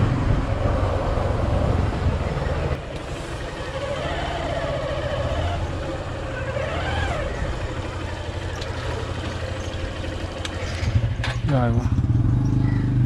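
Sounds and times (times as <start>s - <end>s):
motorcycle engine idling: 1.8s - 13.0s.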